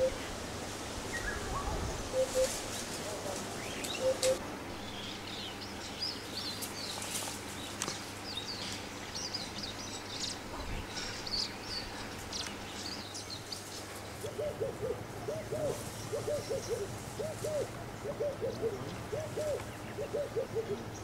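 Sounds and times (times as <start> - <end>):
small birds chirping and twittering: 0.0 - 21.0
steady faint hiss: 0.0 - 21.0.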